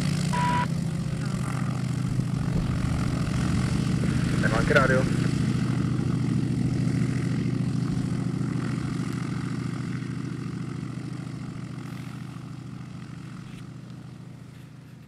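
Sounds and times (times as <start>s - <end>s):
radial aircraft engine running: 0.0s - 15.0s.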